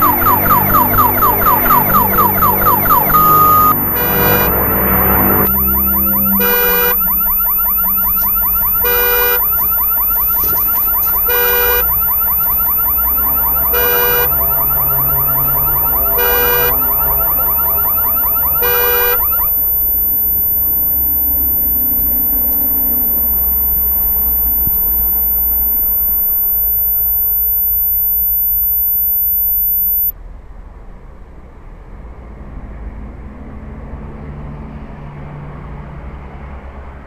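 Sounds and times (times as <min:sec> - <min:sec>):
alarm siren chirping and blaring: 0:00.0 - 0:30.1.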